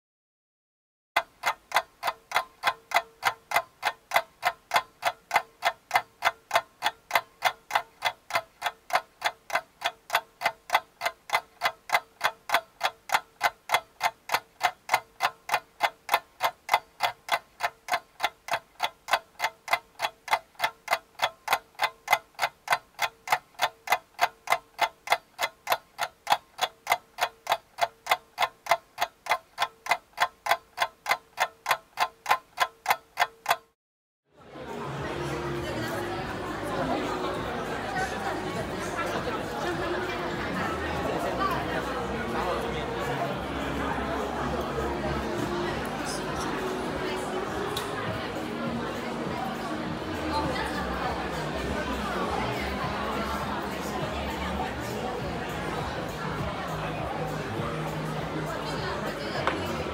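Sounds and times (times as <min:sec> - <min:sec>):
clock-like ticking: 0:01.2 - 0:33.8, 0:35.2 - 0:59.9.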